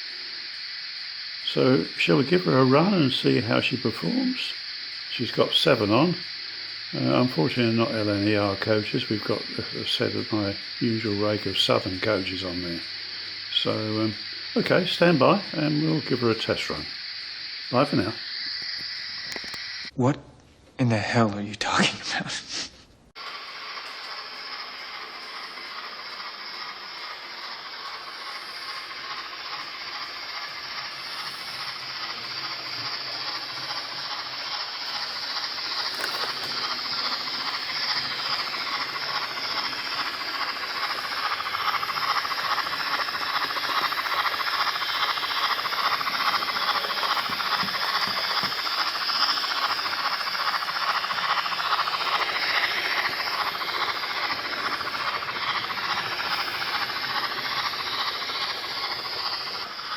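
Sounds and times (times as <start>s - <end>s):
model steam locomotive chuffing: 0.0s - 20.0s, 23.2s - 59.9s.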